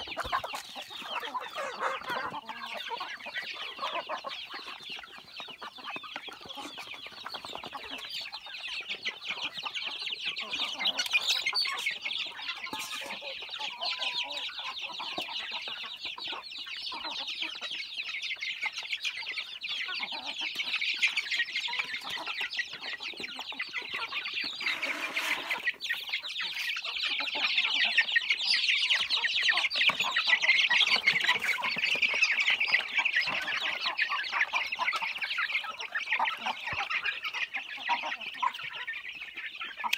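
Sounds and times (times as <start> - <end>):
chickens clucking: 0.0 - 39.9
chicks peeping: 0.0 - 39.9.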